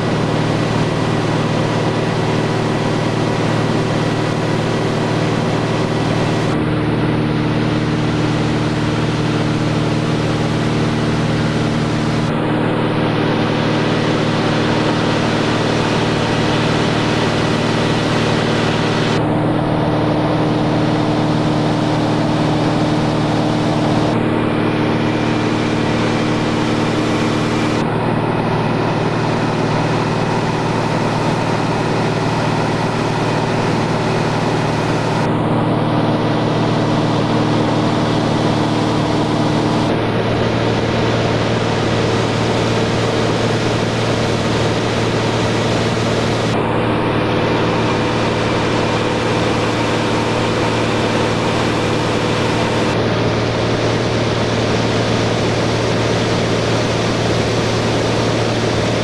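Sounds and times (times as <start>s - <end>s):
propeller aircraft engine droning: 0.0s - 59.0s.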